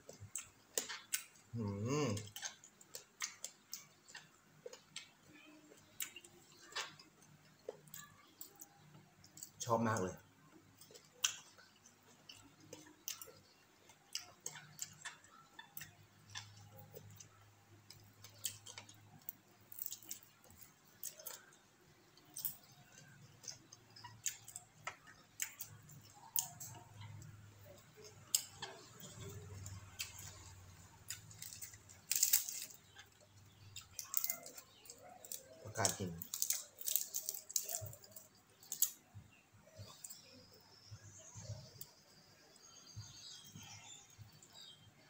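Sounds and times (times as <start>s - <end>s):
chewing and lip smacking: 0.0s - 9.6s, 10.4s - 40.5s.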